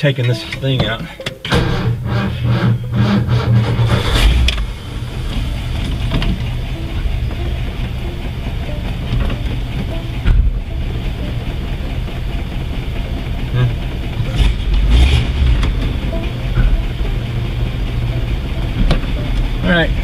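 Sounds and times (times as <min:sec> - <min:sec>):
car engine running: 0:00.0 - 0:20.0
low thumps: 0:00.0 - 0:20.0.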